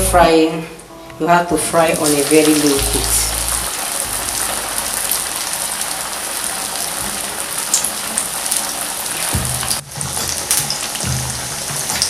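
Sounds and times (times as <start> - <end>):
fritters sizzling in hot oil: 2.0 - 12.0.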